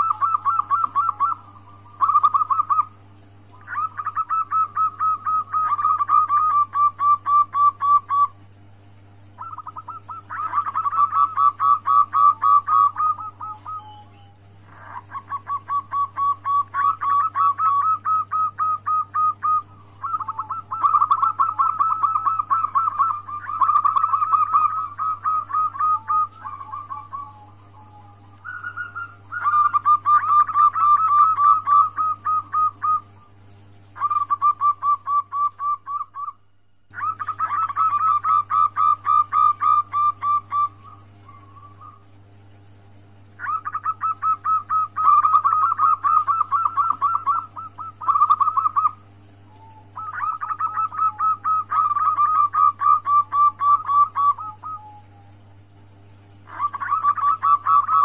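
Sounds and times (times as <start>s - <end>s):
dove trilled calling: 0.0s - 58.0s.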